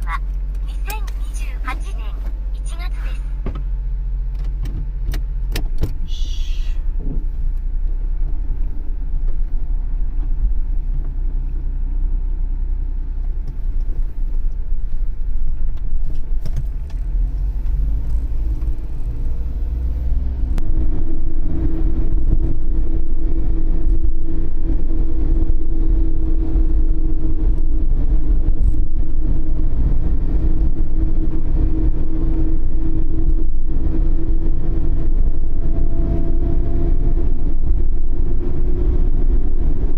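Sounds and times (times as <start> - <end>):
road noise: 0.0 - 39.9
small van engine running: 0.0 - 39.9.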